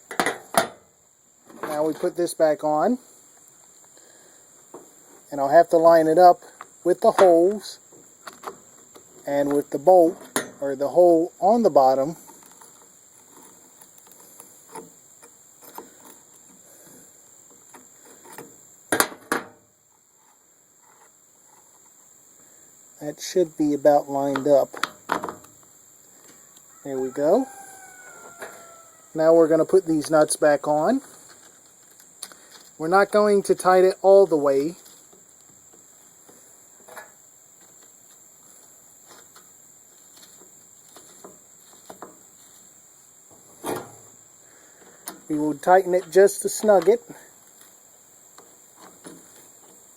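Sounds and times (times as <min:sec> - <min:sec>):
faint steady hiss: 0:00.0 - 0:49.9.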